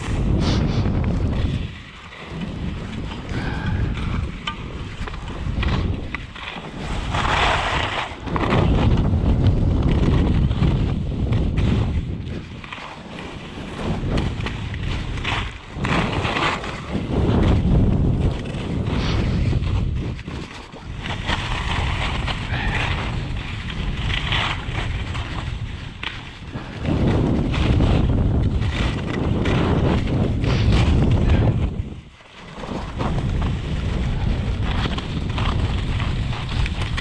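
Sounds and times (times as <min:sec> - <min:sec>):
skis scraping over snow: 0:00.0 - 0:37.0
wind on microphone: 0:00.0 - 0:37.0.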